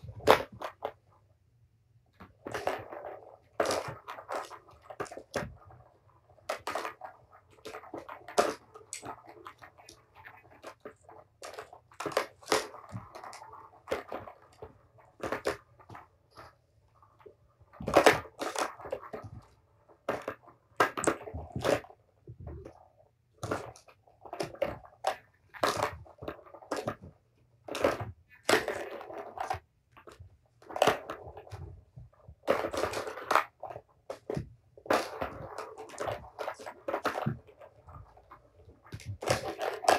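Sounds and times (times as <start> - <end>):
plastic balls clacking in track toy: 2.2 - 39.9
plastic balls rattling: 2.2 - 39.9.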